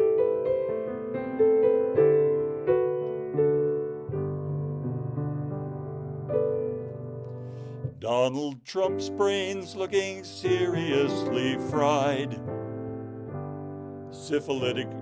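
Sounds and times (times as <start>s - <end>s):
slow gentle piano music: 0.0s - 8.2s, 8.8s - 15.0s.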